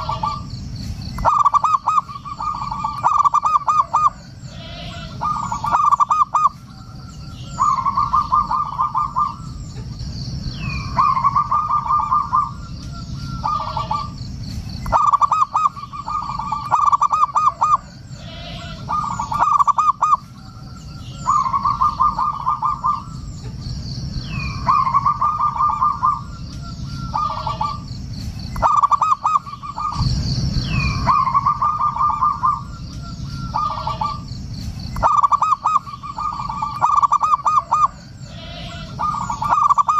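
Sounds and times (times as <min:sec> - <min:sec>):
dove cooing: 0:00.0 - 0:10.0, 0:10.6 - 0:23.6, 0:24.2 - 0:27.9, 0:28.5 - 0:39.9.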